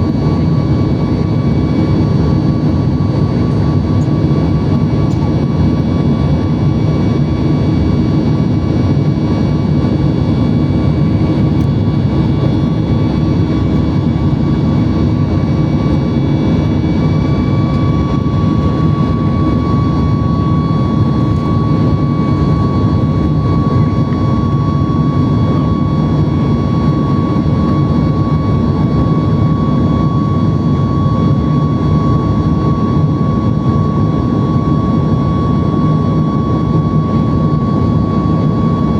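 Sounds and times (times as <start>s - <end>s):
high engine whine: 0.0s - 38.9s
jet engines roaring: 0.0s - 38.9s.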